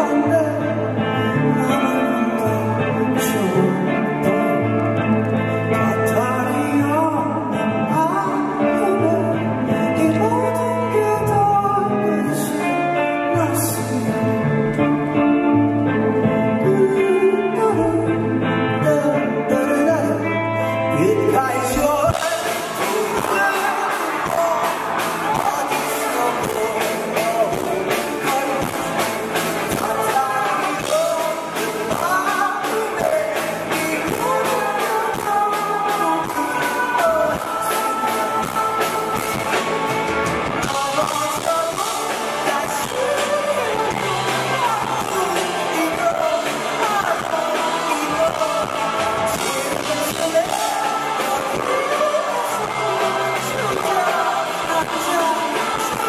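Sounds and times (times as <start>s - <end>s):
electric guitar passage: 0.0s - 56.0s
live rock band playing: 0.0s - 56.0s
man singing into a microphone: 0.0s - 56.0s.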